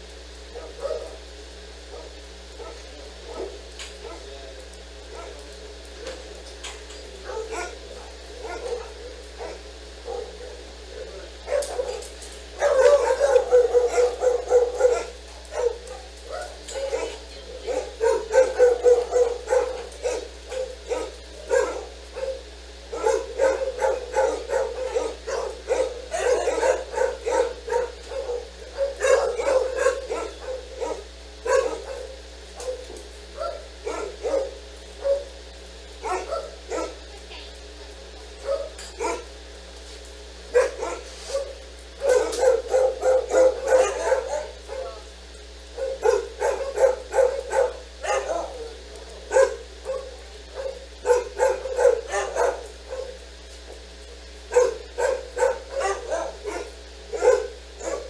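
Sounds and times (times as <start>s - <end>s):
dog barking: 0.5s - 4.4s, 5.0s - 6.3s, 7.1s - 35.4s, 36.0s - 37.4s, 38.1s - 39.4s, 40.5s - 58.0s.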